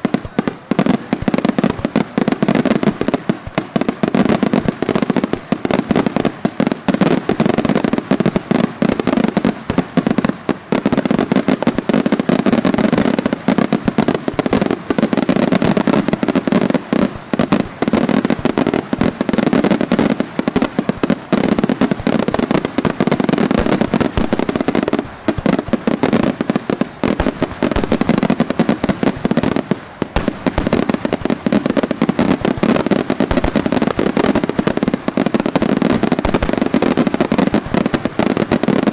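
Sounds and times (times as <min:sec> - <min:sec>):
firecracker bangs: 0:00.0 - 0:38.9.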